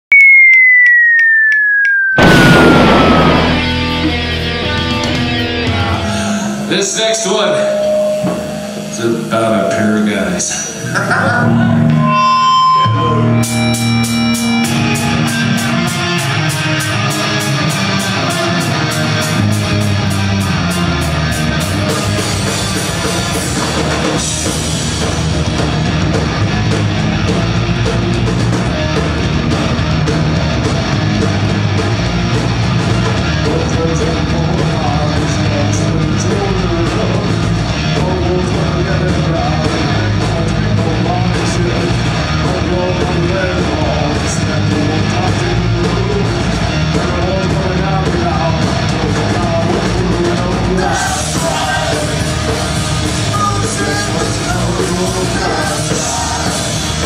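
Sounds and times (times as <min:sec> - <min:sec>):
distorted electric guitars: 0:00.6 - 0:57.0
drums: 0:02.1 - 0:57.0
live punk rock band: 0:02.2 - 0:06.7, 0:10.8 - 0:57.0.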